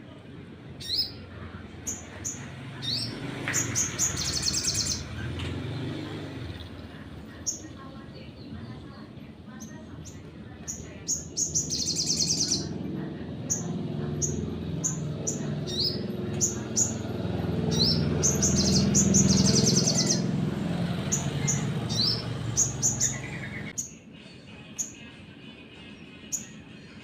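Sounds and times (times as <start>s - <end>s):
bird singing with chips and trills: 0.8s - 27.0s.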